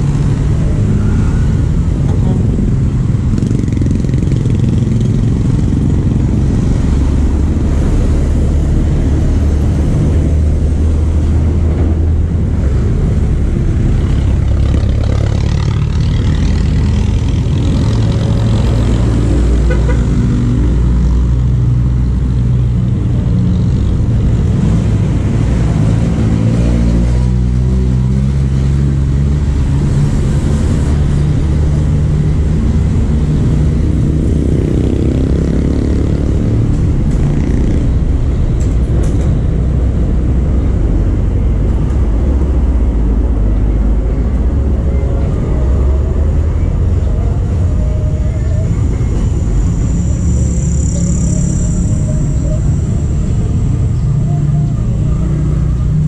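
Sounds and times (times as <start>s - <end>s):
motor vehicles passing: 0.0s - 56.0s.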